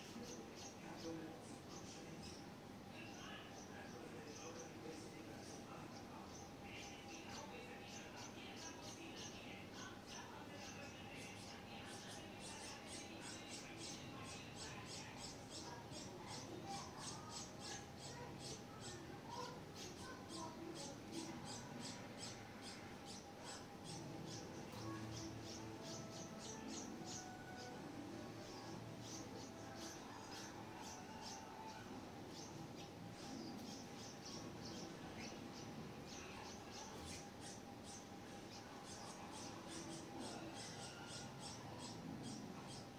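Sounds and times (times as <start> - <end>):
nestling birds chirping: 0.0 - 42.9.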